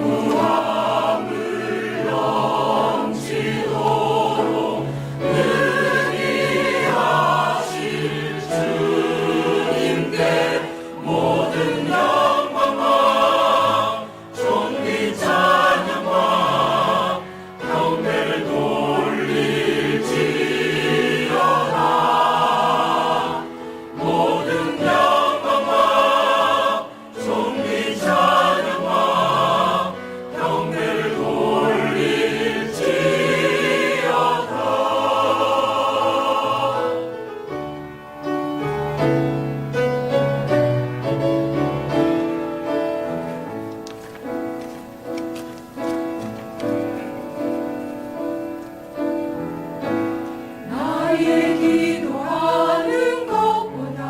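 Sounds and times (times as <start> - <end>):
choir singing a hymn: 0.0 - 54.0
piano playing: 0.0 - 54.0.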